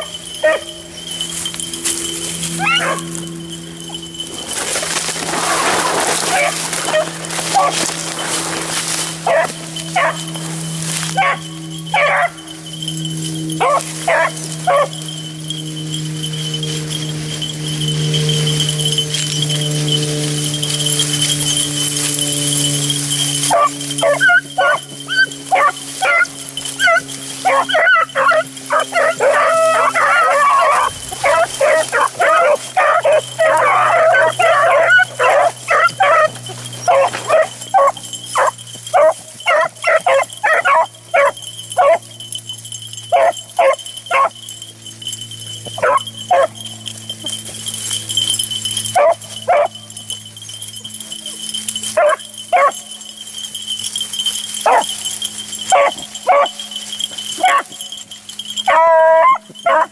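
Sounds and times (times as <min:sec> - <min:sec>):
hounds baying and barking: 0:00.0 - 0:59.9.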